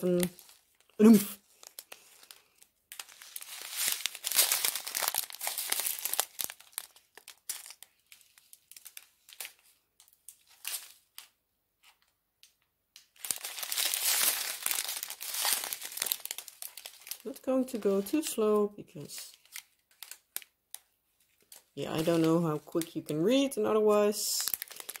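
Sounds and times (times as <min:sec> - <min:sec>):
plastic bags crinkling: 0:00.0 - 0:12.1, 0:13.0 - 0:25.0.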